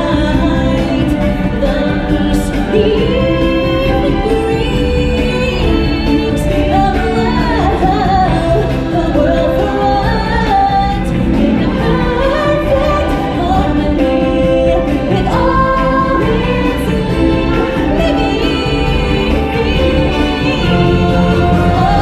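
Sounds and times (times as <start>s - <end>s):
heavy bass: 0.0s - 22.0s
stage-show music with choir: 0.0s - 22.0s.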